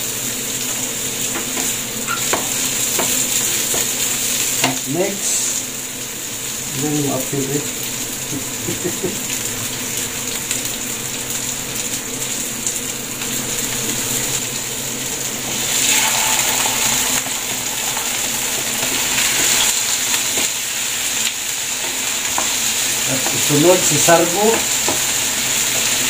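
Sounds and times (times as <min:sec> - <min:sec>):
onions sizzling in frying pan: 0:00.0 - 0:26.0.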